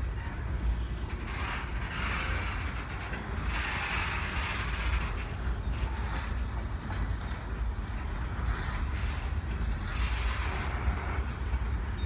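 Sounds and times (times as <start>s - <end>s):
freight cars rolling on rails: 0.0s - 12.0s.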